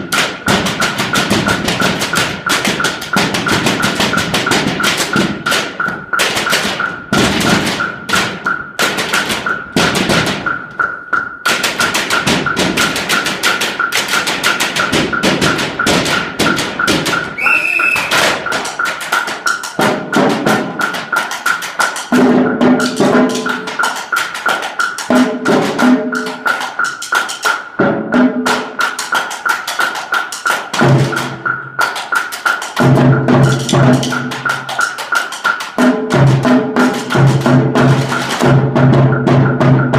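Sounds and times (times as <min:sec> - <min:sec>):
hand percussion tapping: 0:00.0 - 0:39.9.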